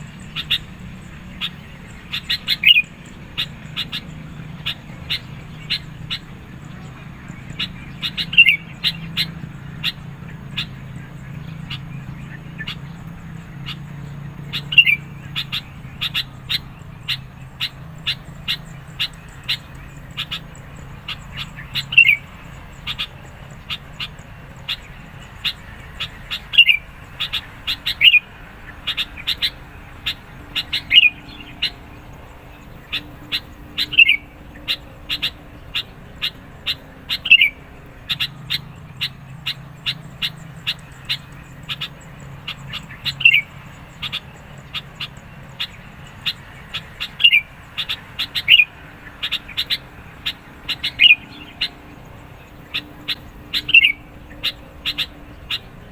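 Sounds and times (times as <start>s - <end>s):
bulbul calling: 0.0s - 55.9s.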